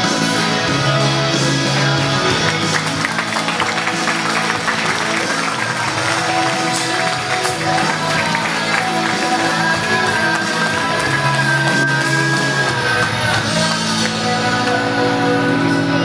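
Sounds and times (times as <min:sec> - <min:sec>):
person singing: 0:00.0 - 0:16.0
rock song with guitar: 0:00.0 - 0:16.0.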